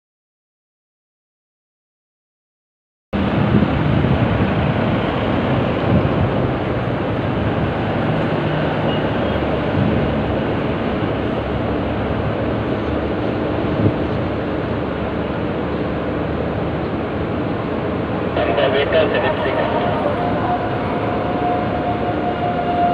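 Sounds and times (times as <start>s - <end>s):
cars driving past: 3.2s - 22.9s
street traffic noise: 3.2s - 22.9s.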